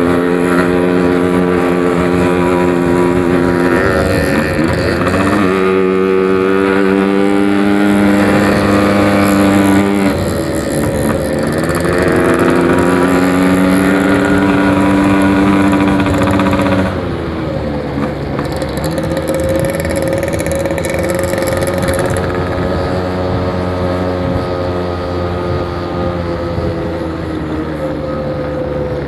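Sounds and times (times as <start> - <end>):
two-stroke motorcycle engine: 0.0 - 29.0.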